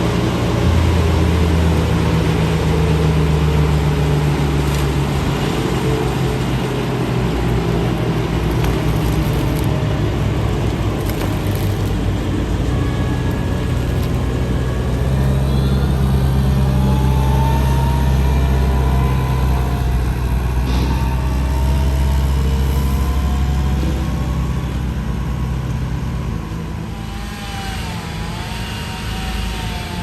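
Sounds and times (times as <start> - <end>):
faint gliding whine: 0.0 - 26.0
heavy engine under load: 0.0 - 30.0.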